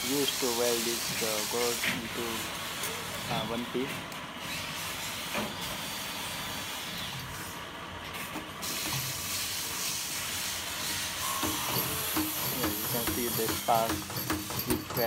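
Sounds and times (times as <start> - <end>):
spot welding machine hissing: 0.0 - 7.7, 8.6 - 15.0.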